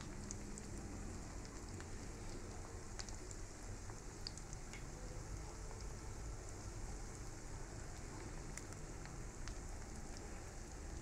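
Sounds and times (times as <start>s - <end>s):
food sizzling in hot oil: 0.0s - 11.0s
small pops and crackles: 0.0s - 11.0s.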